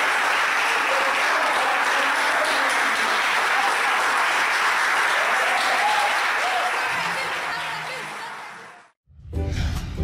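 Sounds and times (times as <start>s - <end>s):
crowd applauding: 0.0s - 9.0s.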